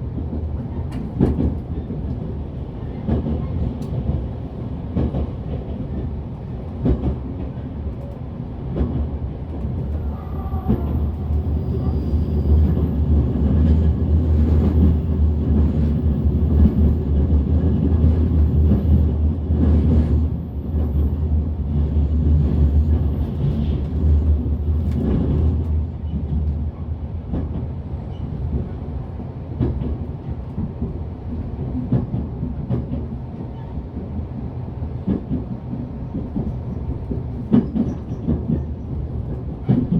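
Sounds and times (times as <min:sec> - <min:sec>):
train wheels rumbling on rails: 0:00.0 - 0:39.9
rail-joint clicks: 0:00.1 - 0:39.9.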